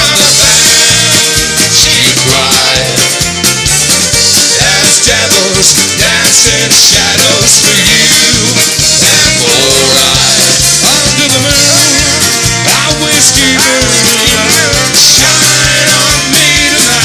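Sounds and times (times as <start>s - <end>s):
acoustic guitar: 0.0s - 17.0s
drums keeping a beat: 0.0s - 17.0s.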